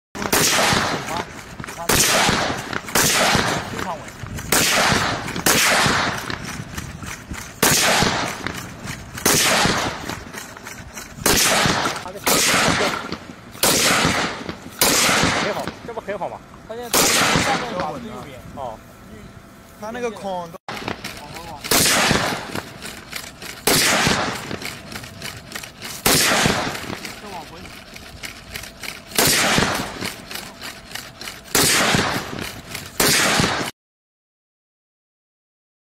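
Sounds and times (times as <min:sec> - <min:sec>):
rifle shots echoing: 0:00.2 - 0:16.2, 0:16.8 - 0:18.1, 0:20.7 - 0:33.7.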